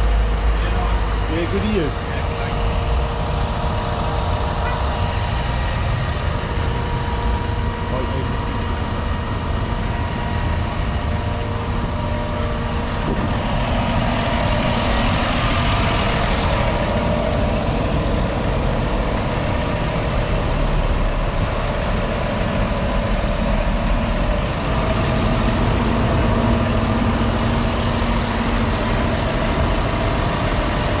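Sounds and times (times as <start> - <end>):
diesel tractor engine idling: 0.0 - 31.0.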